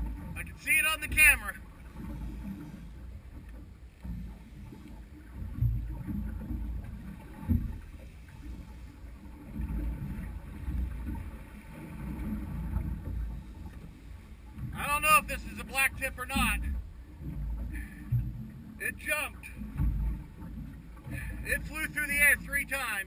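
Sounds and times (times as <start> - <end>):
water around boat: 0.0 - 23.0.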